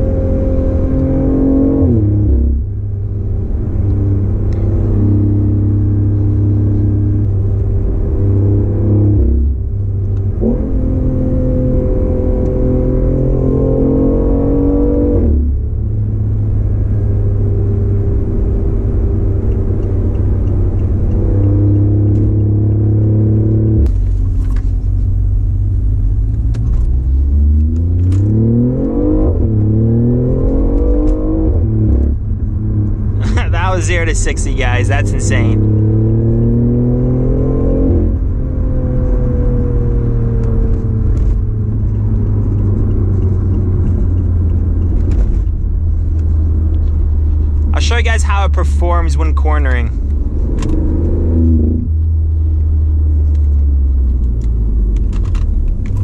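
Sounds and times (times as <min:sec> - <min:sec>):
car engine droning and revving: 0:00.0 - 0:56.0.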